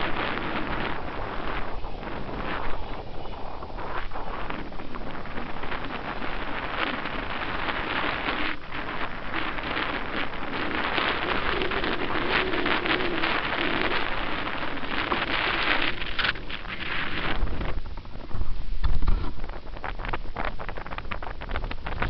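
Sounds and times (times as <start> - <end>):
wind gusts on microphone: 0.0 - 22.0.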